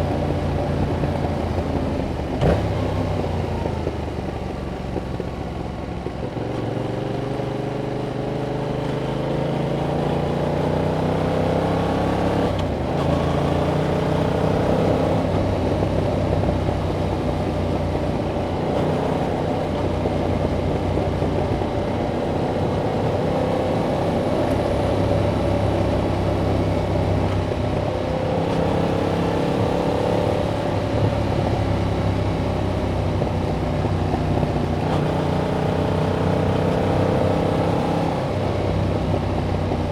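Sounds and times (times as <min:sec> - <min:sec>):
motorcycle engine revving: 0:00.0 - 0:04.4, 0:06.3 - 0:39.9.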